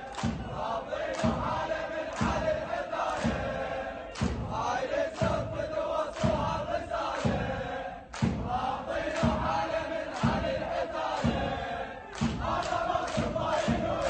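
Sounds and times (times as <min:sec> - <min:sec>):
crowd chanting: 0:00.0 - 0:14.0.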